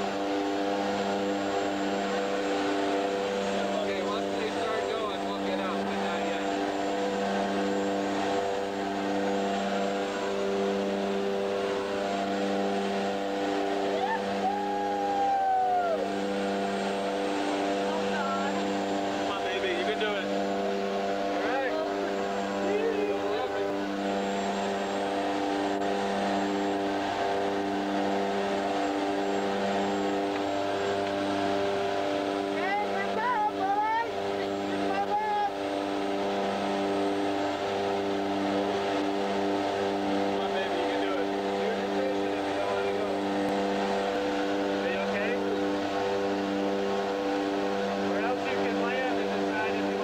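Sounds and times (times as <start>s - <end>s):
propeller aircraft engines droning: 0.0s - 50.0s.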